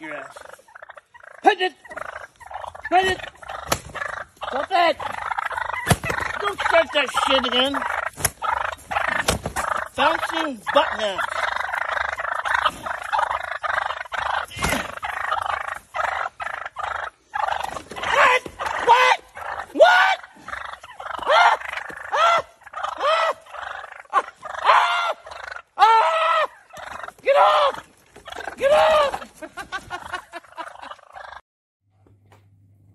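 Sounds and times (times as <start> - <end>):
turkeys gobbling: 0.0 - 31.4.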